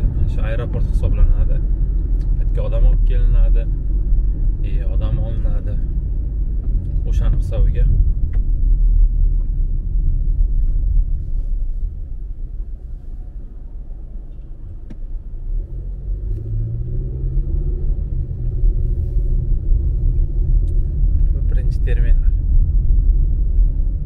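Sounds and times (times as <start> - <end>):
car engine: 0.0 - 24.0
tyres on a wet road: 0.0 - 24.0.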